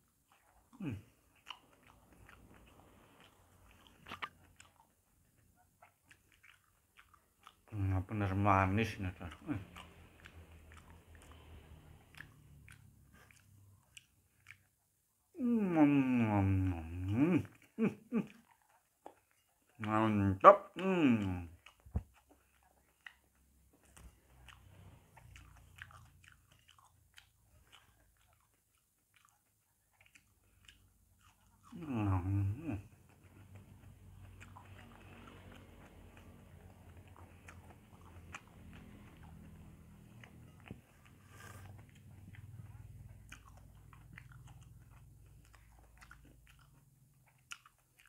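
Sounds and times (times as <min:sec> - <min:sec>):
person chewing soft fruit: 0:00.0 - 0:48.0.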